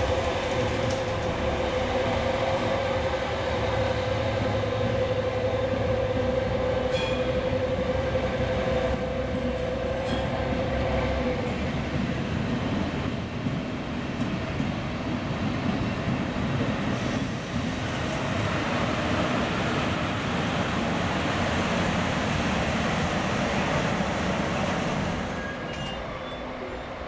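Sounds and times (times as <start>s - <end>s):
train wheels rolling on rails: 0.0s - 27.0s.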